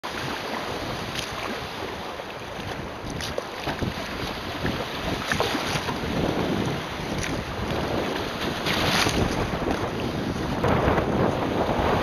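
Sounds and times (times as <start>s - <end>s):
water splashing against kayak hull: 0.0s - 12.0s
wind buffeting microphone: 0.2s - 12.0s.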